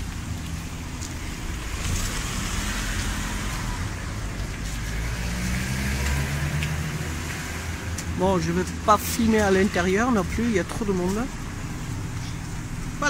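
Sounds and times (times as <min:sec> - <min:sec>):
low traffic rumble: 0:00.0 - 0:13.0
passing car: 0:00.0 - 0:13.0.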